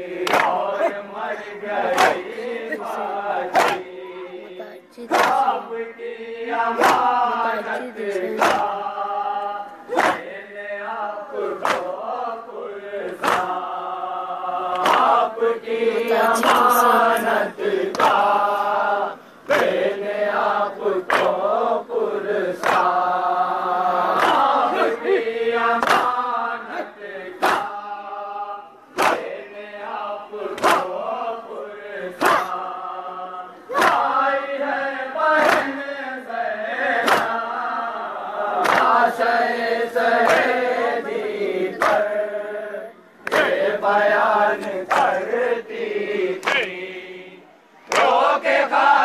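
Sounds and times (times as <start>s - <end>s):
men chanting in unison: 0.0s - 49.0s.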